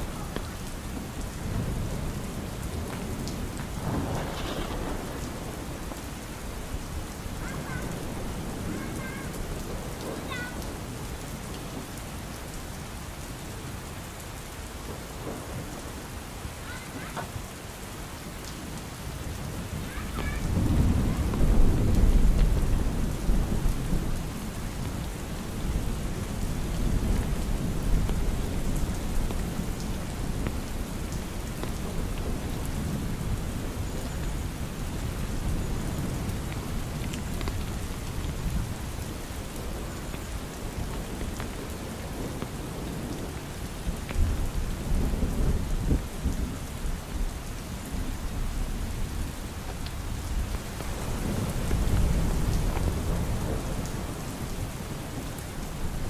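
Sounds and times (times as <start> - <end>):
thunder rumbling: 0.0 - 11.9, 19.4 - 47.2, 47.8 - 56.0
rain hiss: 0.0 - 56.0.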